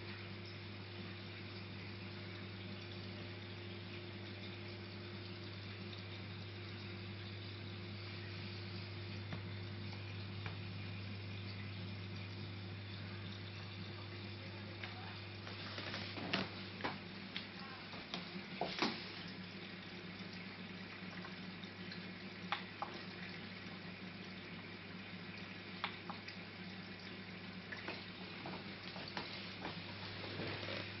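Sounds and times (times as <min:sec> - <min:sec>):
low equipment hum: 0:00.0 - 0:31.0.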